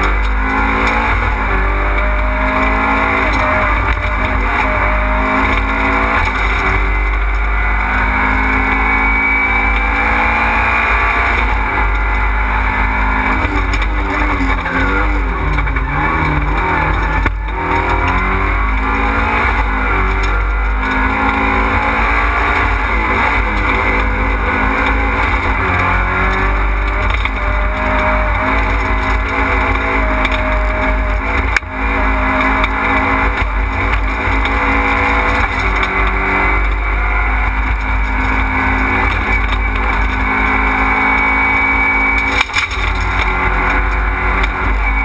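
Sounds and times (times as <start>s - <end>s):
car engine revving hard: 0.0s - 45.0s
road and tyre noise: 0.0s - 45.0s.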